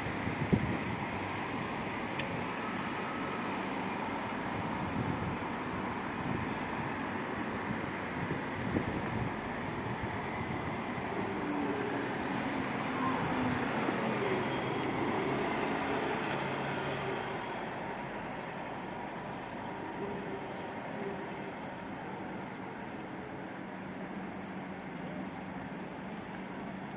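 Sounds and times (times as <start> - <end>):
city bus passing: 0.0 - 26.9.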